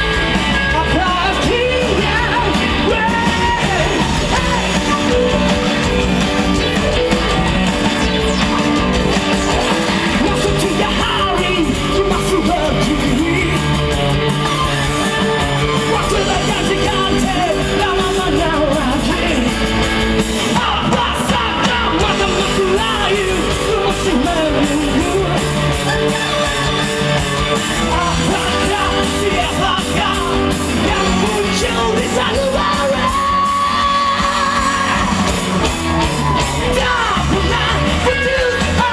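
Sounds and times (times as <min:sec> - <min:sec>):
person singing and shouting: 0:00.0 - 0:08.4, 0:09.3 - 0:19.8, 0:20.4 - 0:38.9
drums: 0:00.0 - 0:38.9
electric guitar: 0:00.0 - 0:38.9.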